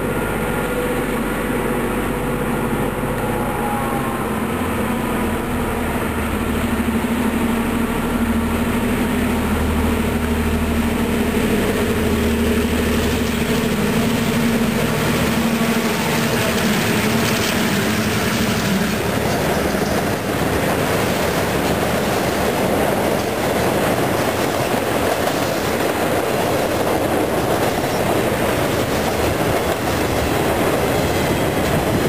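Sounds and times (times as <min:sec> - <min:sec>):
diesel locomotive engine drone: 0:00.0 - 0:32.0
train wheels on rails: 0:00.0 - 0:32.0.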